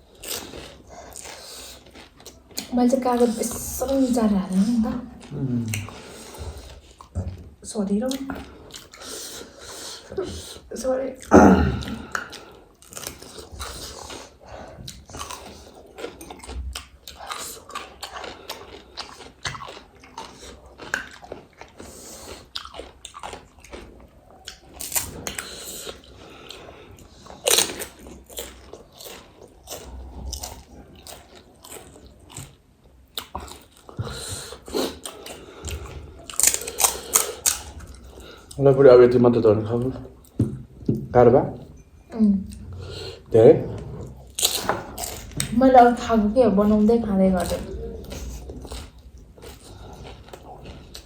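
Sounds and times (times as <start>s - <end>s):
crunchy food being chewed: 0.0s - 7.4s, 8.0s - 10.6s, 11.2s - 38.7s, 42.5s - 45.6s, 46.7s - 51.0s.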